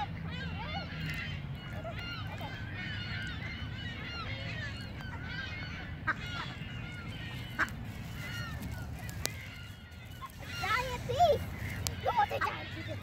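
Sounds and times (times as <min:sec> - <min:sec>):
duck calls: 0:00.0 - 0:13.0
geese honking: 0:00.0 - 0:13.0.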